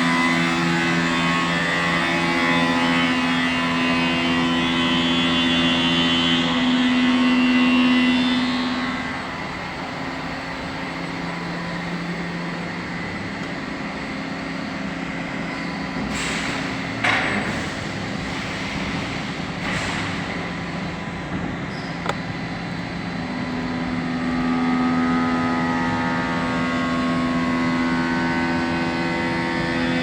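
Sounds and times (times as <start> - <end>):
machine motor hum with whine: 0.0 - 30.0.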